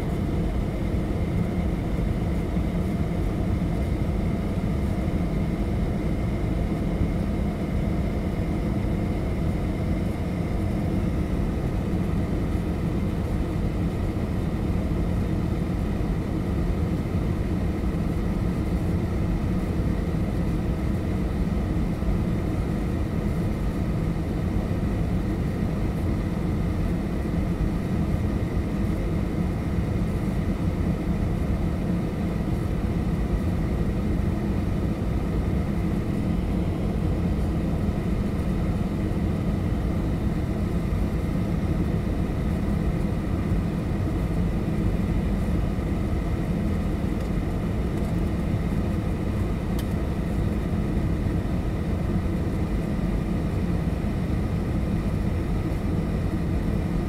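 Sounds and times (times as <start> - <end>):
airplane cabin rumble: 0.0 - 57.0
faint steady whine: 0.0 - 57.0.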